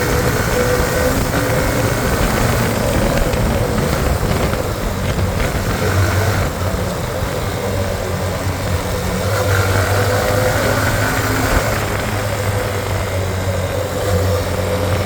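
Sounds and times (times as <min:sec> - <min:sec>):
motorcycle engine droning: 0:00.0 - 0:15.0
wind noise on microphone: 0:00.0 - 0:15.0.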